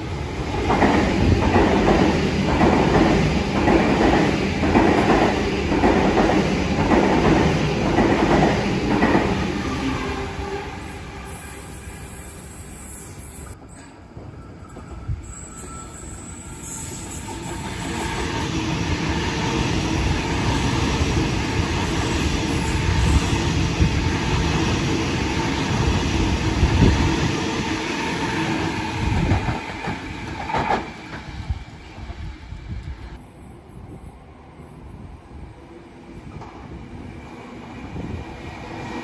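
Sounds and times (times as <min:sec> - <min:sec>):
train wheels rumbling on rails: 0:00.0 - 0:12.6, 0:13.4 - 0:39.0
train whine: 0:00.0 - 0:39.0.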